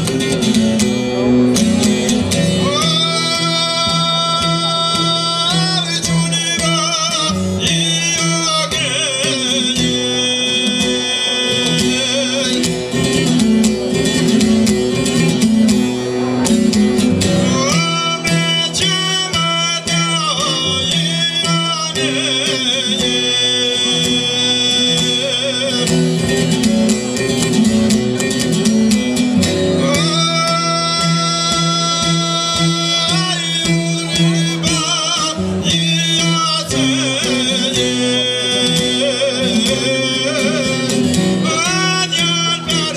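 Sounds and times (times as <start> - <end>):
man singing folk ballad: 0.0 - 42.9
plucked long-necked lute: 0.0 - 42.9.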